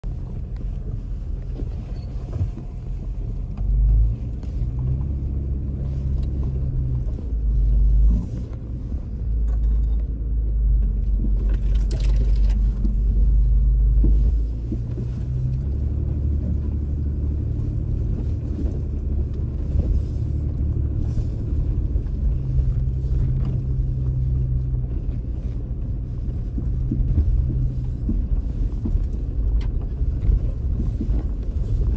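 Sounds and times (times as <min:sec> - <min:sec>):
off-road vehicle engine rumbling: 0:00.0 - 0:31.9.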